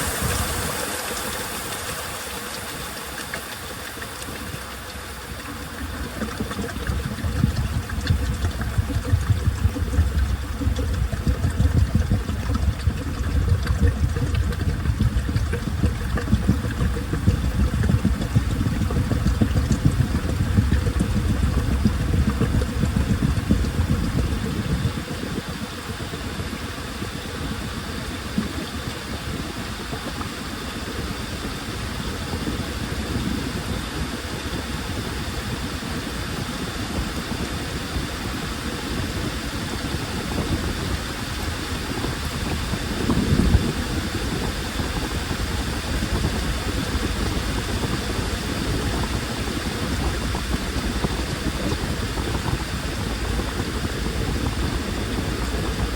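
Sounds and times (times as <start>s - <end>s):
washing machine running: 0.0s - 55.9s.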